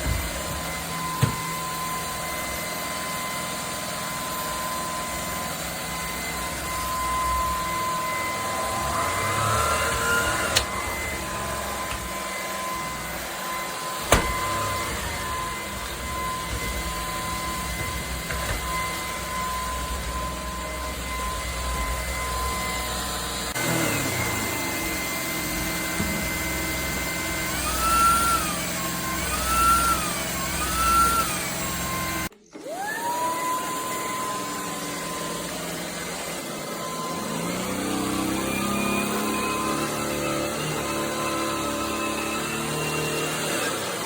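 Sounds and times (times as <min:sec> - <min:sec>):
stick vacuum motor whining: 0:00.0 - 0:44.0.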